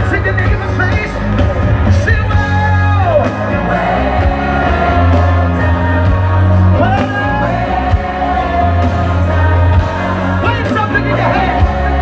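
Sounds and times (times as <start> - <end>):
live gospel band music: 0.0 - 12.0.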